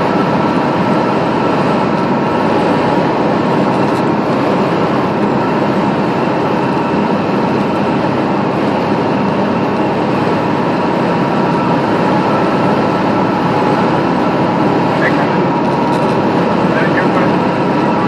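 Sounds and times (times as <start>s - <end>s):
aircraft engine drone: 0.0s - 18.0s
airflow noise: 0.0s - 18.0s.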